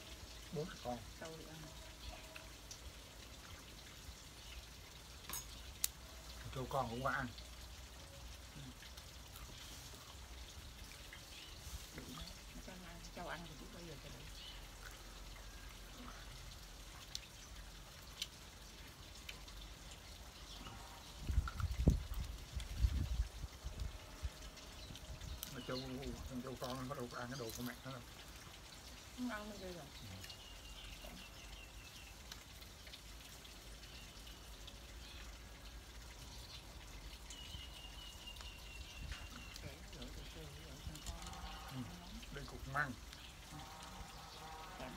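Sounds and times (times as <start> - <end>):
low steady hiss: 0.0 - 44.9.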